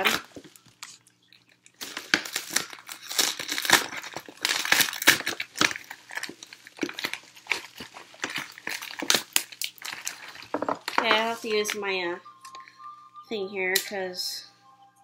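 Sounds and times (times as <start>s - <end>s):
bubble wrap crinkling: 0.0s - 12.9s.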